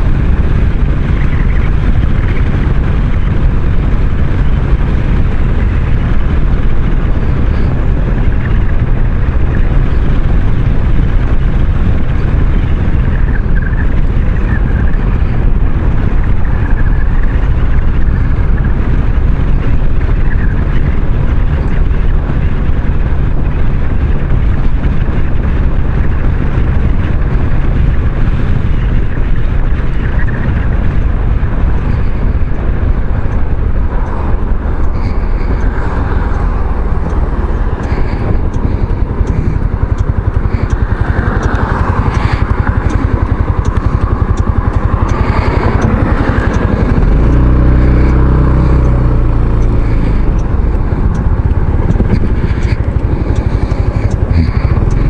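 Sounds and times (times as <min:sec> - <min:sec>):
deep strong hum: 0:00.0 - 0:55.0
rush of noise: 0:00.0 - 0:55.0
scooter engine running: 0:00.0 - 0:55.0.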